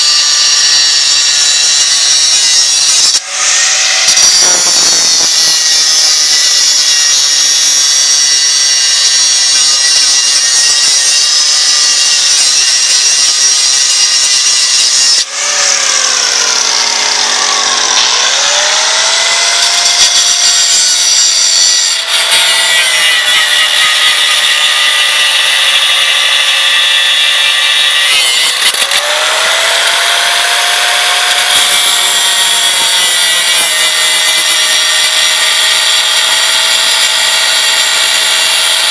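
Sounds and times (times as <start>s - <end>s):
angle grinder cutting steel: 0.0s - 38.9s.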